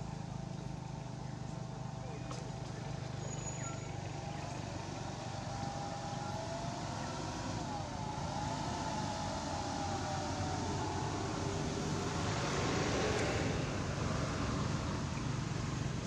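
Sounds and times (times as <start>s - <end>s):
distant motor engine running: 0.0s - 16.0s.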